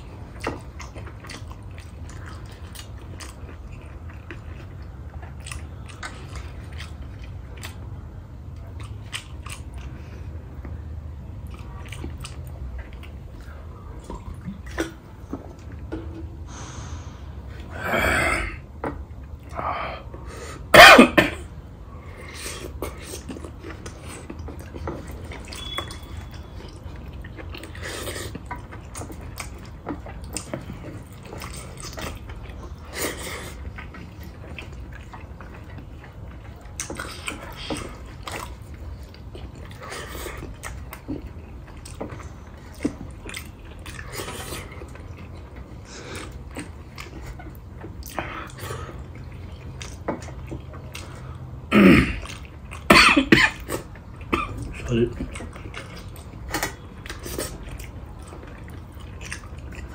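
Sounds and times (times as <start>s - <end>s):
chewing and mouth smacks: 0.0s - 16.2s, 22.0s - 59.9s
low steady hum: 0.0s - 59.9s.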